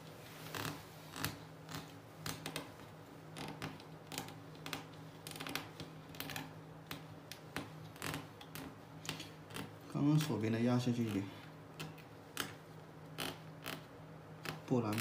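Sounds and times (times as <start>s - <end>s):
thread ticking and scraping over nails: 0.5s - 11.2s, 11.8s - 15.0s.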